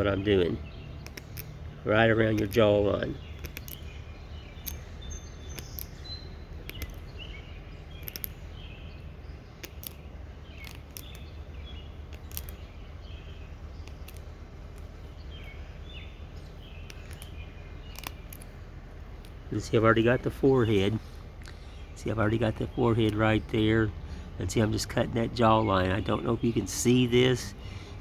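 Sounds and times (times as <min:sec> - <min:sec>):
low background rumble: 0:00.0 - 0:28.0
songbirds chirping: 0:00.0 - 0:28.0
sharp clicks: 0:00.1 - 0:27.8.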